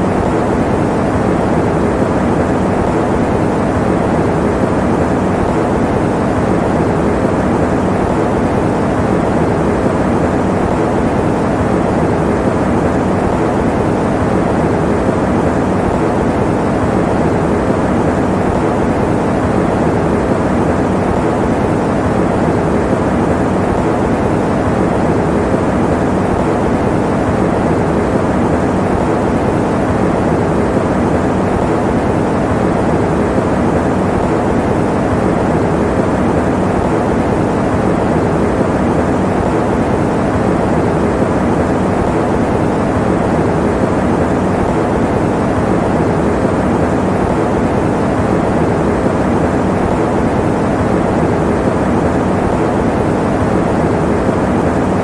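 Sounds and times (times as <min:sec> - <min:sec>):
fan running: 0:00.0 - 0:55.0.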